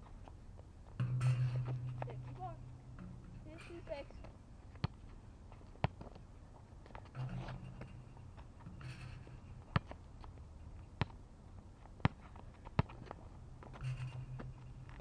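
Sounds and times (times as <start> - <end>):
basketball bouncing on asphalt: 1.0 - 6.2, 6.8 - 10.4, 11.0 - 11.2, 11.9 - 15.0.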